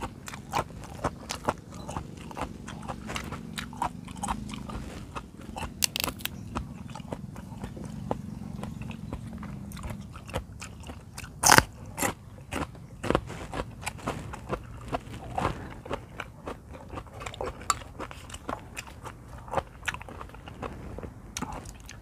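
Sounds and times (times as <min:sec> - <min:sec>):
mouth chewing food: 0:00.0 - 0:22.0.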